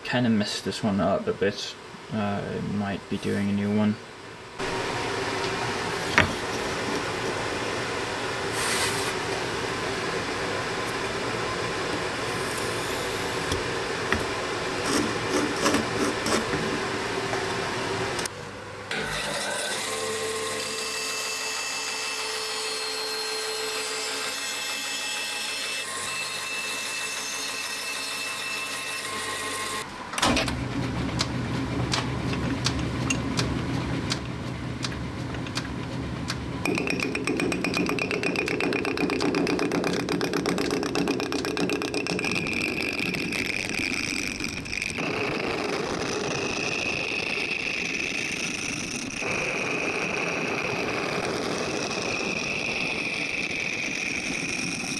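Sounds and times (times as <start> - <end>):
rapid ticking of wood cutting: 4.6 - 17.5, 19.5 - 29.8, 30.5 - 54.9
power tool motor running: 4.6 - 18.3, 18.9 - 54.9.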